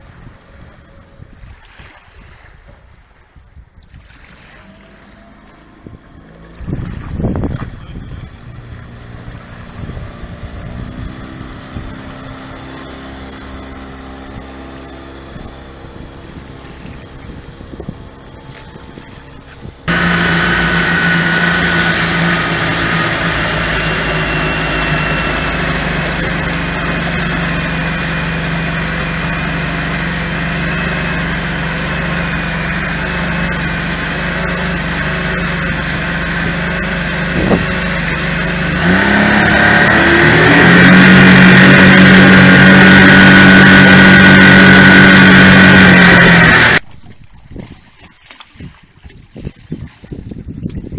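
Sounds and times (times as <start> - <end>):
rushing wind: 0.0 - 47.8, 48.6 - 50.9
boat wake splashing: 0.0 - 50.9
outboard motor running: 0.0 - 50.9.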